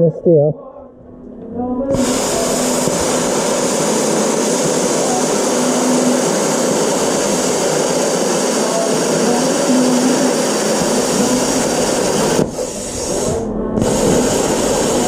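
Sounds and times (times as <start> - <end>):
plasma cutter hissing: 1.9 - 15.0.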